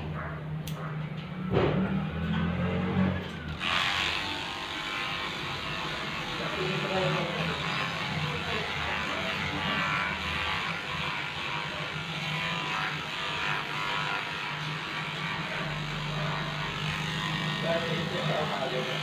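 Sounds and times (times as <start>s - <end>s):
electric clippers motor hum: 2.2s - 19.0s.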